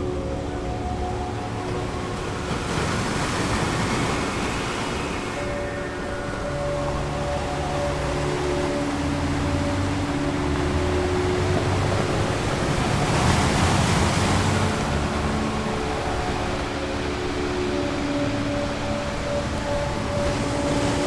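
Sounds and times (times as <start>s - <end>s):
relaxation music drone: 0.0s - 21.0s
ocean waves washing in: 1.6s - 21.0s.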